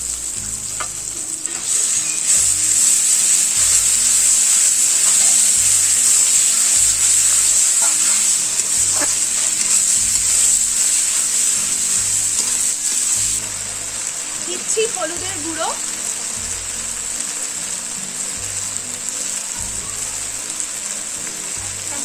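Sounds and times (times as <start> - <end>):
masala sizzling in hot oil: 0.0 - 22.0.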